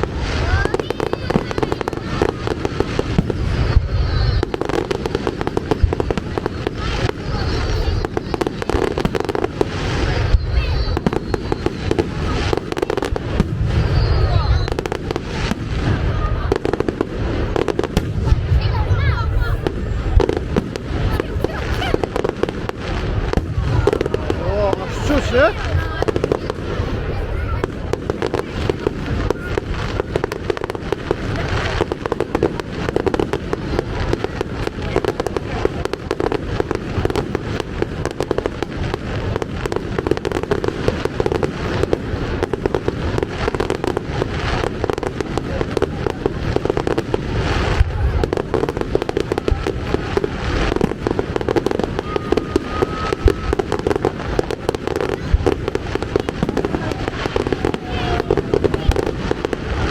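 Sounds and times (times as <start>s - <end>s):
fireworks bangs and crackles: 0.0s - 59.9s
loud firework bursts: 0.0s - 59.9s.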